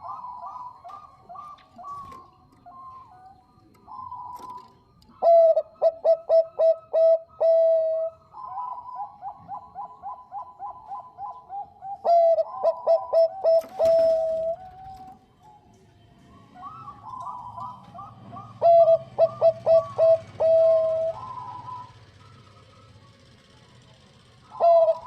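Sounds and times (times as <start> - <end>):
dove cooing: 0.0 - 15.6, 16.4 - 25.0.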